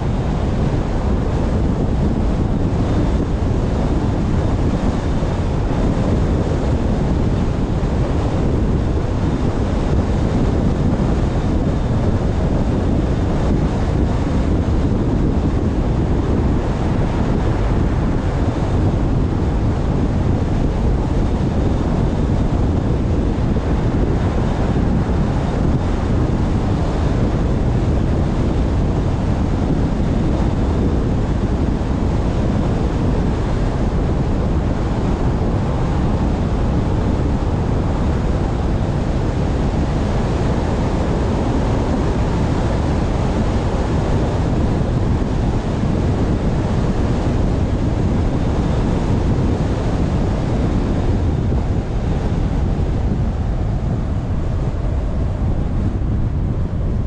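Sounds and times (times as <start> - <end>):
car tyre and road noise: 0.0 - 57.0
wind over microphone: 0.0 - 57.0.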